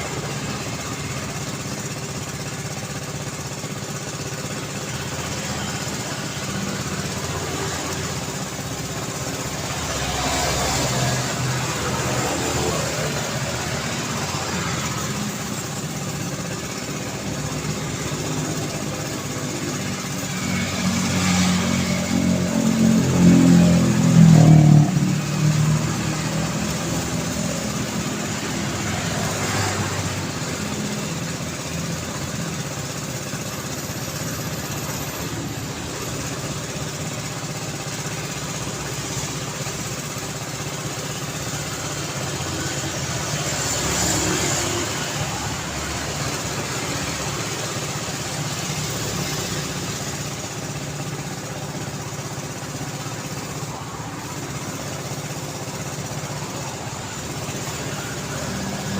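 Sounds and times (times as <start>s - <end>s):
traffic hum and tyre noise: 0.0s - 58.9s
vehicles passing: 0.0s - 58.9s.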